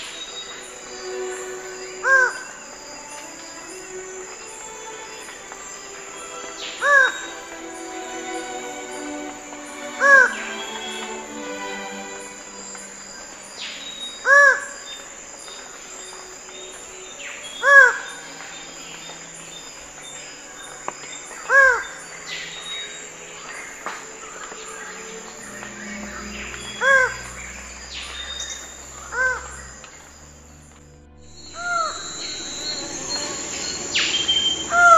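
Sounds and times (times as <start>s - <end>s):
forest insects humming: 0.0s - 34.9s.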